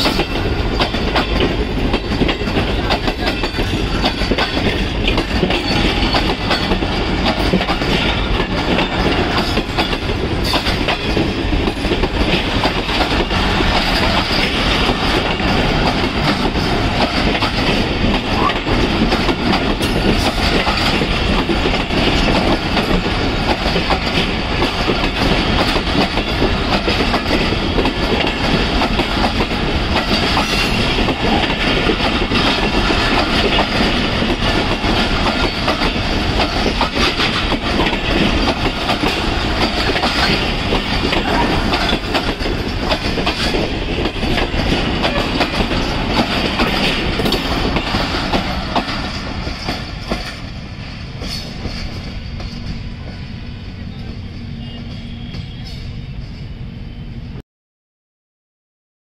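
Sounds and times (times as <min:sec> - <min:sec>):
wheels clacking over rail joints: 0:00.0 - 0:50.6
train wheels rushing on rails: 0:00.0 - 0:57.4.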